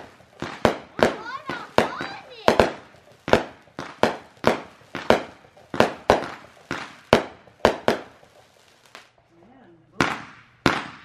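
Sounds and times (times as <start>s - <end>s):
firework cake sharp bangs: 0.0s - 9.1s, 10.0s - 11.0s.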